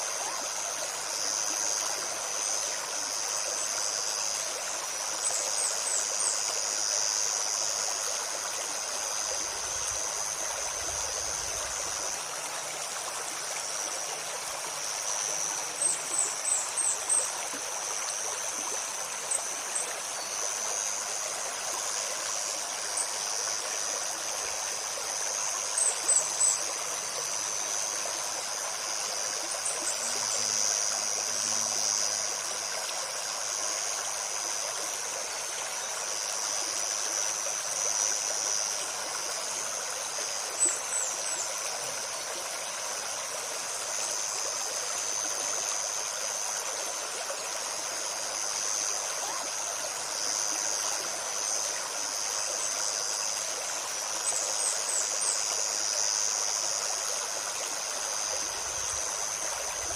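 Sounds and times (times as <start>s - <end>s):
high insect drone: 0.0s - 59.9s
stream burbling: 0.0s - 59.9s.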